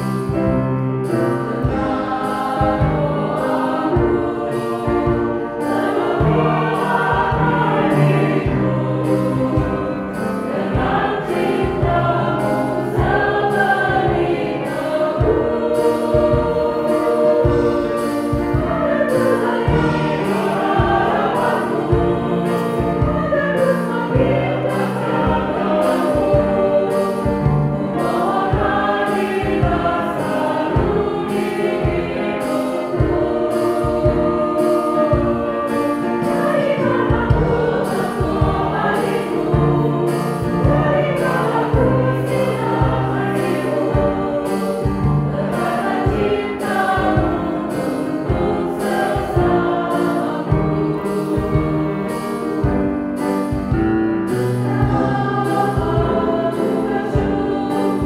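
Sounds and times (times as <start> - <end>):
accompaniment beat: 0.0 - 58.0
choir singing a hymn: 0.0 - 58.0.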